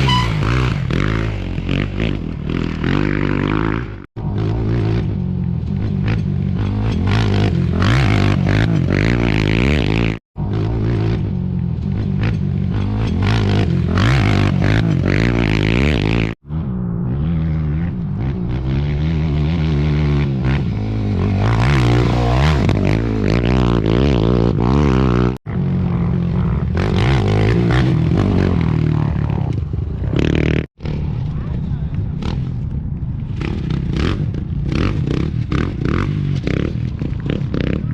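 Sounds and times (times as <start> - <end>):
motorcycles revving past: 0.0 - 31.1, 33.3 - 37.9.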